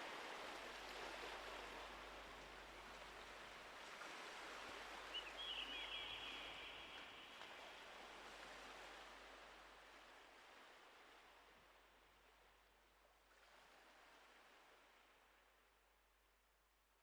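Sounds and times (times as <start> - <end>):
faint wash of water: 0.0 - 15.9.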